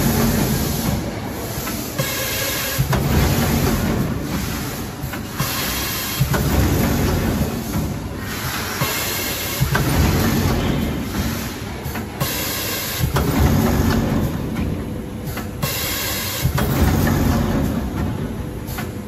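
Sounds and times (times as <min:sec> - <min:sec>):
packing machine clatter: 0:00.0 - 0:19.0.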